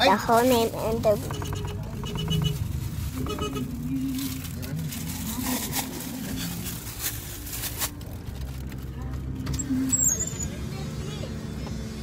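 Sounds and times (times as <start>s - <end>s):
car rumble from inside cabin: 0.0s - 6.9s, 8.1s - 12.0s.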